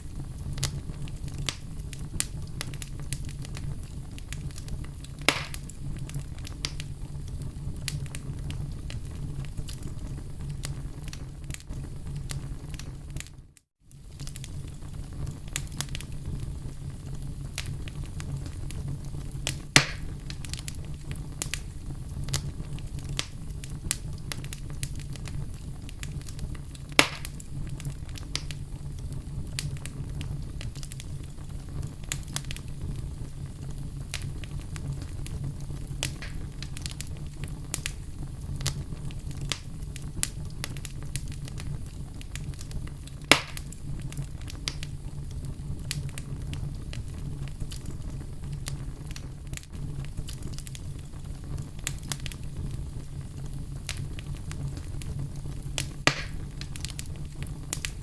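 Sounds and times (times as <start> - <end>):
fire crackling in a fireplace: 0.0 - 58.0
sharp fire pops: 0.0 - 58.0.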